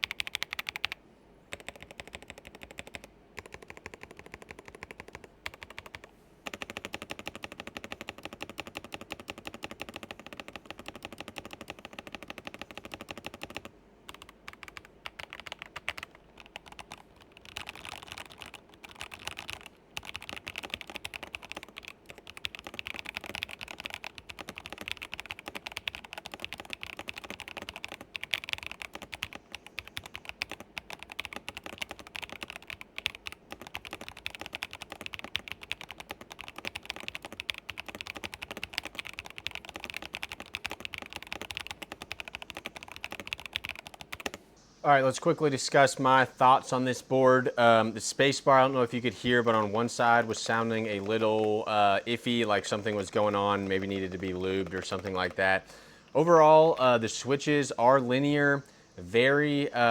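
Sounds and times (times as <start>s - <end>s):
fast typing on mechanical keyboard: 0.0s - 44.4s, 48.3s - 57.0s.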